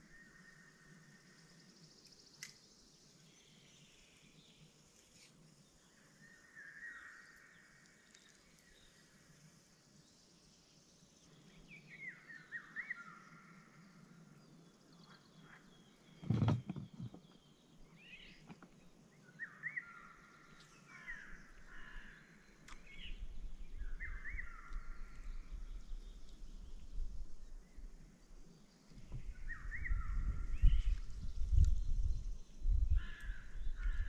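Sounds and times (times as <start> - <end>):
songbird chirping: 0.0 - 34.0.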